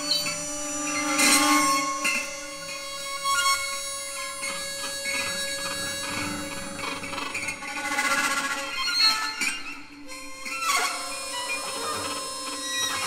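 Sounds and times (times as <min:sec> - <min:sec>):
held string drone: 0:00.0 - 0:13.0.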